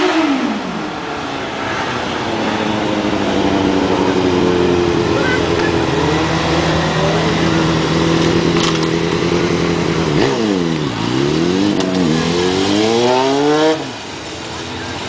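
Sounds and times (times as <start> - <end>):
motorcycle engine revving: 0.0 - 1.0, 2.0 - 14.3.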